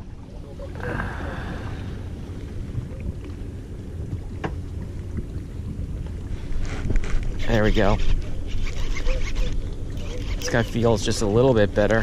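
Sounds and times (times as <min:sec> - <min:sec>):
boat low rumble: 0:00.0 - 0:12.0.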